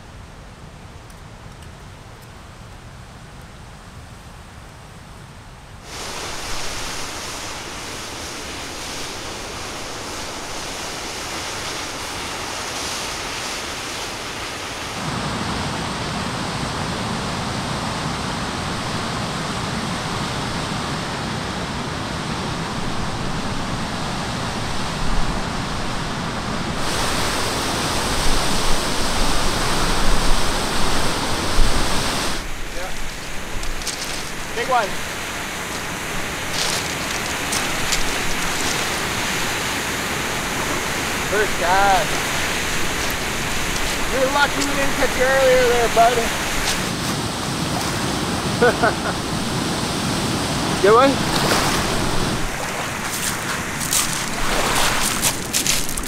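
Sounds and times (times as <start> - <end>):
waterfall roaring: 5.8 - 56.0.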